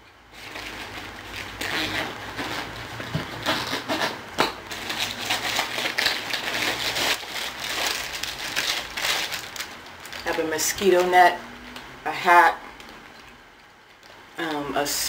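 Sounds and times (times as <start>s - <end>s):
plastic bags crinkling: 0.3s - 11.8s, 12.6s - 14.3s.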